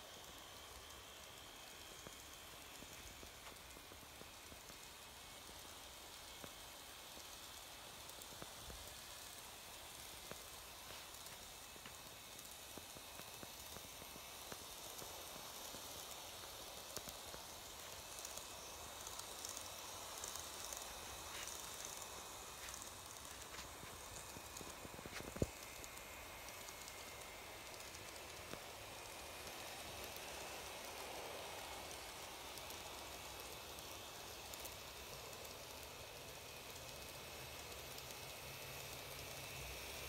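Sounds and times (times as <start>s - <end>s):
model train whirring: 0.0s - 40.0s
faint ticks: 0.1s - 40.0s.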